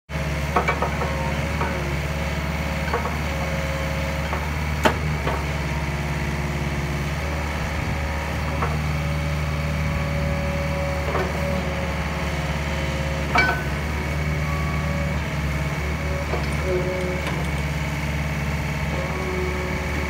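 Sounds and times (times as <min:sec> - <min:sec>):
excavator diesel engine running: 0:00.1 - 0:20.0
hydraulic whine: 0:00.6 - 0:20.0.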